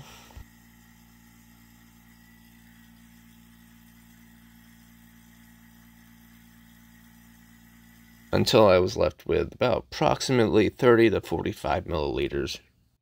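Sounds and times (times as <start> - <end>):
lab equipment hum: 0.0 - 13.0.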